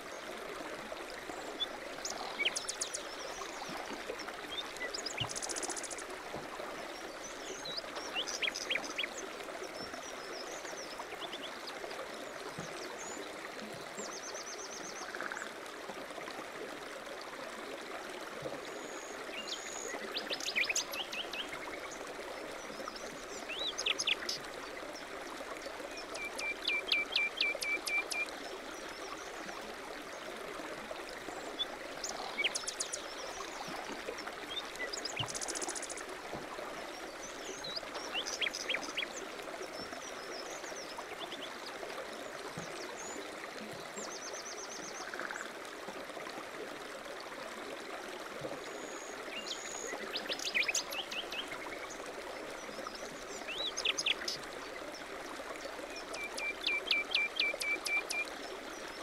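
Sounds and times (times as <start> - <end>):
stream running: 0.0 - 59.0.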